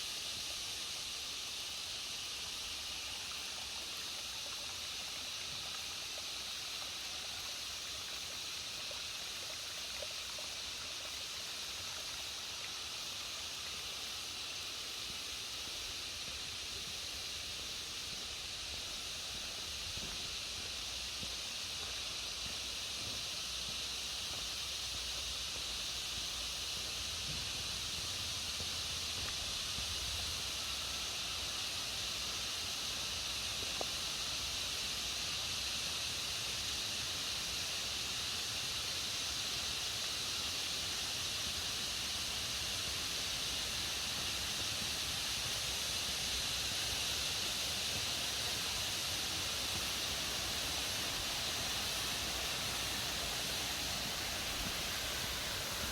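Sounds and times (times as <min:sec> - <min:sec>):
high-pitched forest hiss: 0:00.0 - 0:55.9.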